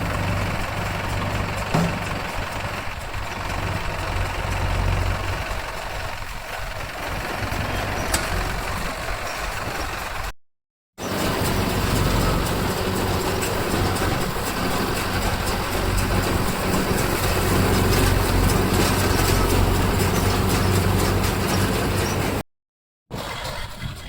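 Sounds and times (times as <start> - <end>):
baler mechanical clatter: 0.0 - 10.3, 11.0 - 22.4
tractor engine running under load: 0.0 - 10.3, 11.0 - 22.4.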